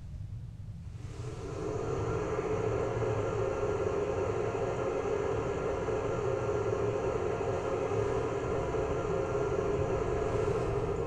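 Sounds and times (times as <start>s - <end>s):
cooling fan whirring hum: 0.0s - 11.0s.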